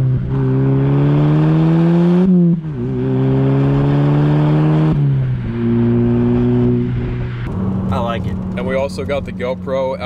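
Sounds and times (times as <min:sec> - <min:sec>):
car exhaust accelerating: 0:00.0 - 0:10.0.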